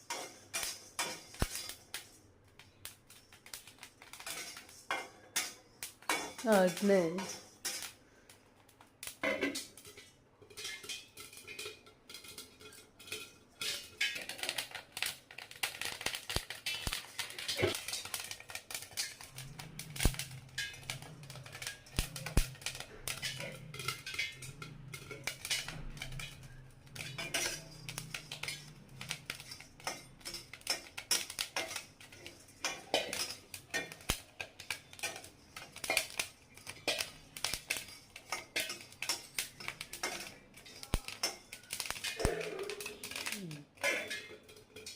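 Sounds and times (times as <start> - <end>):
metal clinking against pan: 0.0 - 2.2, 3.1 - 8.3, 9.2 - 44.9
grains popping in hot pan: 0.0 - 44.9.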